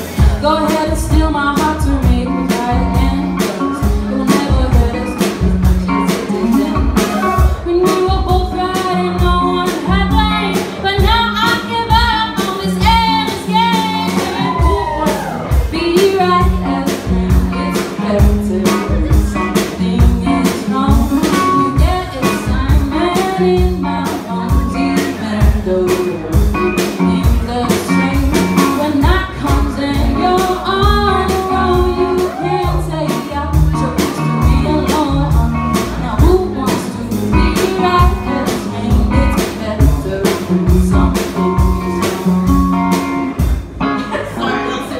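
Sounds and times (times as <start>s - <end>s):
singer singing: 0.0s - 42.1s, 43.8s - 44.9s
drum kit beat: 0.0s - 44.9s
guitar: 0.0s - 44.9s.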